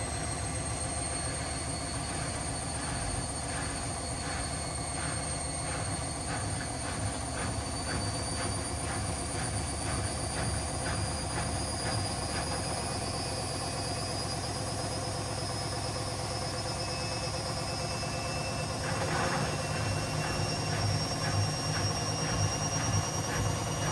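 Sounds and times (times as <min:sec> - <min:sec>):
washing machine spinning: 0:00.0 - 0:23.9.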